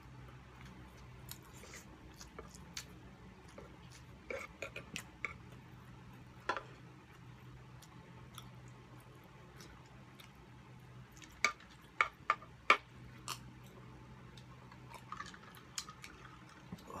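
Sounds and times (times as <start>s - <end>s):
faint low hum: 0.0s - 17.0s
people chewing food: 0.0s - 17.0s.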